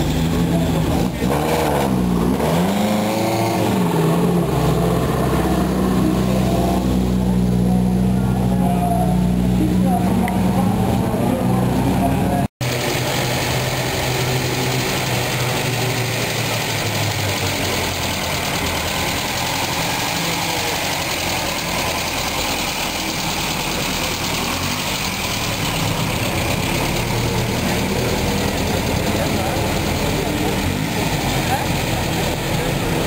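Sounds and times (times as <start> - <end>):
car engine idling: 0.0 - 1.3, 3.6 - 33.0.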